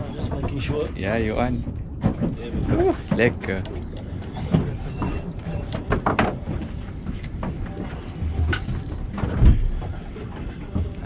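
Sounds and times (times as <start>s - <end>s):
low uneven rumble on boat: 0.0s - 11.0s.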